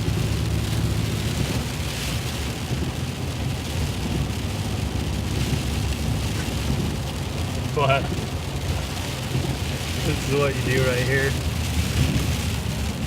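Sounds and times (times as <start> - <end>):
engine and tyre drone: 0.0 - 13.0.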